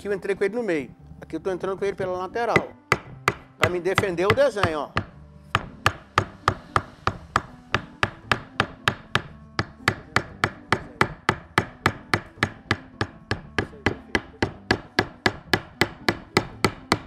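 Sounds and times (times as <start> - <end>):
mallet tapping carving chisel: 2.3 - 17.0.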